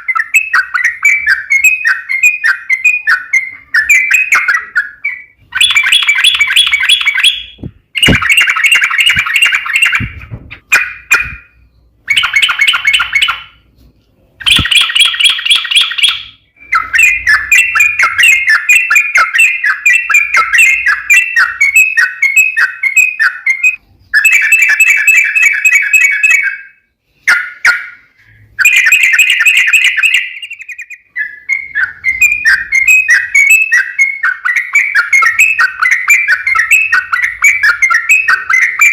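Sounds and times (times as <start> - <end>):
bird chattering and warbling: 0.0 - 13.6, 14.4 - 38.9.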